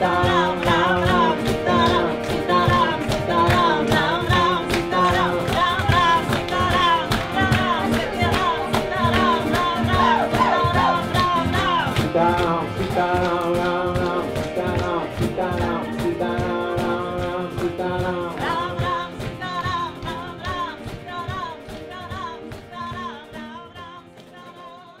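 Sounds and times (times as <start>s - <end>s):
devotional singing: 0.0s - 24.8s
acoustic guitar: 0.0s - 25.0s
percussion: 0.0s - 25.0s.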